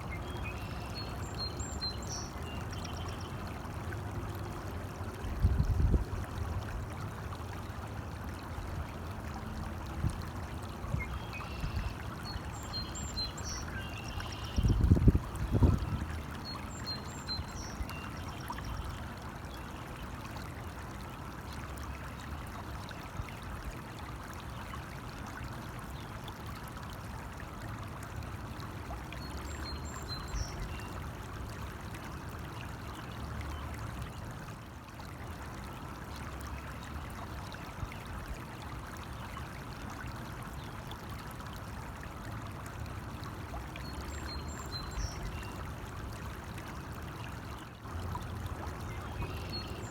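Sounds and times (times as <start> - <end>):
stream babbling: 0.0 - 49.9.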